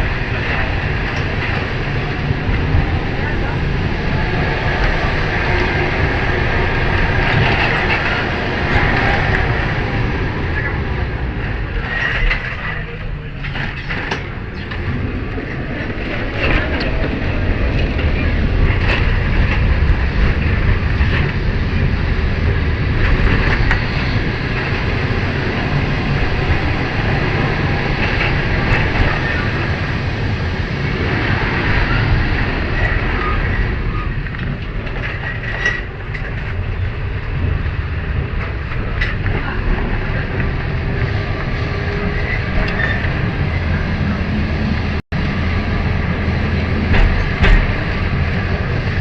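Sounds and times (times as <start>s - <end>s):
tram rumbling on rails: 0.0s - 49.0s.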